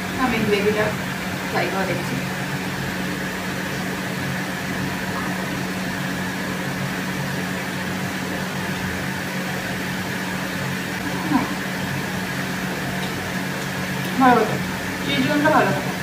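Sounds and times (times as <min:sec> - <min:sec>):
ventilation hum and hiss: 0:00.0 - 0:16.0.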